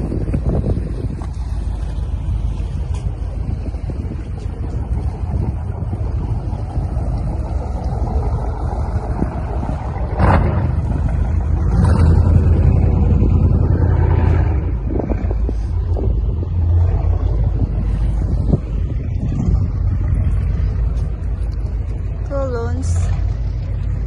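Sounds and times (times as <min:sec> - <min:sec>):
motorboat engine rumble: 0:00.0 - 0:24.0
wind buffeting microphone: 0:00.0 - 0:24.0.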